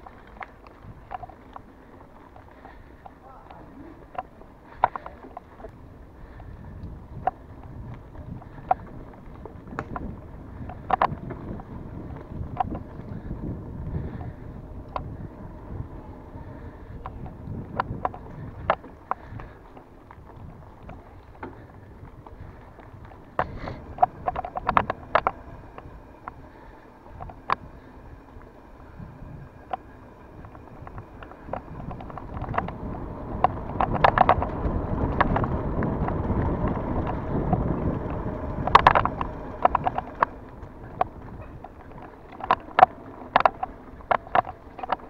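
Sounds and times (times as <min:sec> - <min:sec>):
bicycle clicking: 0:00.0 - 0:45.0
bicycle rolling noise: 0:00.0 - 0:45.0
wind on microphone: 0:04.1 - 0:45.0.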